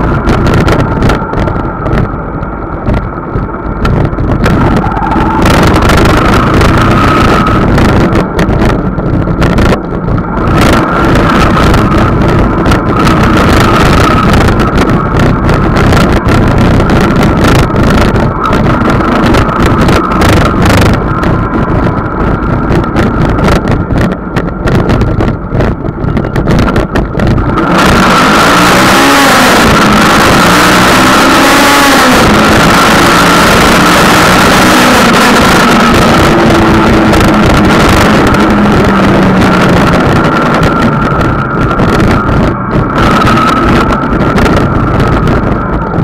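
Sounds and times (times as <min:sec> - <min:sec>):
motorcycle engine running: 0:00.0 - 0:46.0
wind buffeting microphone: 0:00.0 - 0:46.0.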